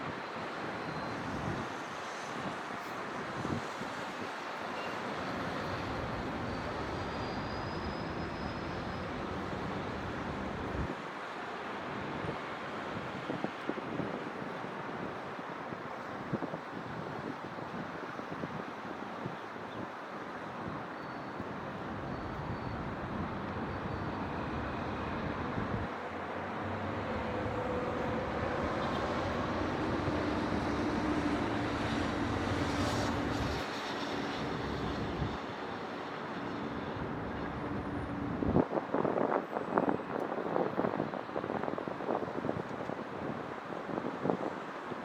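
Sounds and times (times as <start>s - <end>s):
distant city traffic hum: 0.0s - 45.0s.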